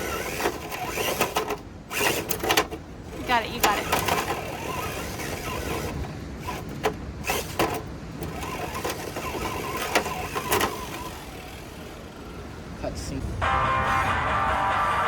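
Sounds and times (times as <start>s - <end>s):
electric motor and gearbox whining: 0.0s - 12.5s.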